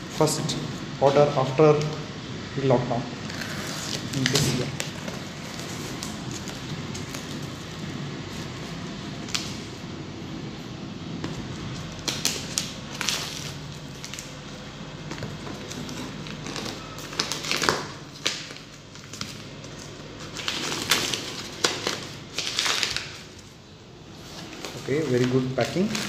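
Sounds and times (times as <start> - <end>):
plastic wrapping crinkling: 3.2 - 9.8, 11.3 - 26.0.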